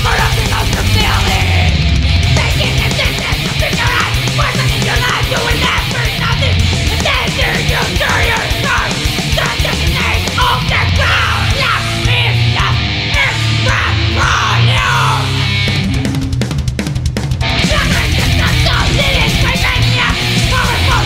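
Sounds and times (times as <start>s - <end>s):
thrash metal band playing: 0.0s - 21.0s.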